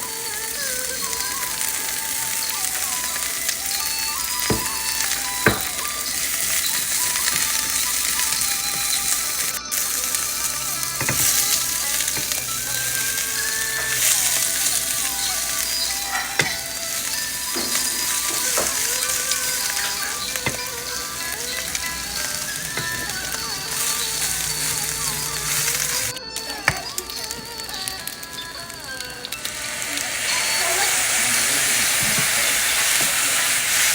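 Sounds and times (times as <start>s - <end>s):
food sizzling in frying pan: 0.0s - 33.9s
utensil clicking against pan: 0.0s - 33.9s.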